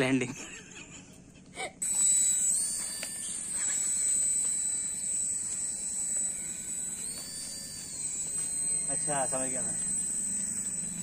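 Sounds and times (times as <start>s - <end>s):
toy helicopter motor whine: 1.8s - 11.0s.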